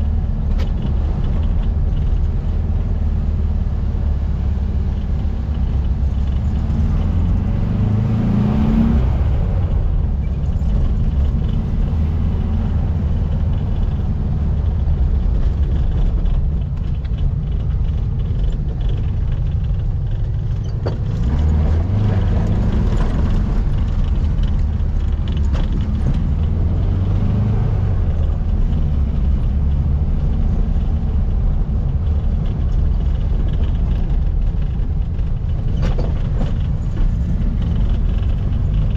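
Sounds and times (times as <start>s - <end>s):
car engine rumbling and revving: 0.0s - 38.9s.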